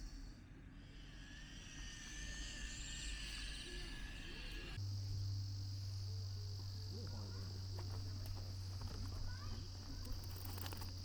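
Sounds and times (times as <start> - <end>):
crickets and insects chirping: 0.0 - 11.0
steady low hum: 0.0 - 11.0.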